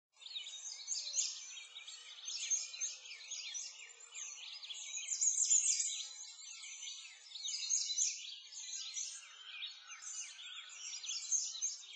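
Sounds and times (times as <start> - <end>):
birds chirping and singing: 0.2 - 11.9.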